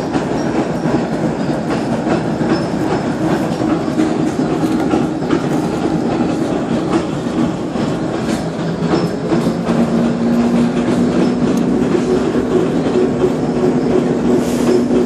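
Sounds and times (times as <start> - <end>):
bus cabin rattling: 0.0 - 15.0.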